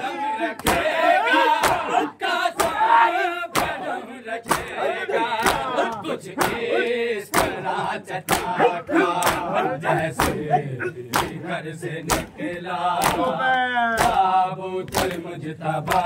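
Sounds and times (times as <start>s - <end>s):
group chanting a lament: 0.0s - 16.0s.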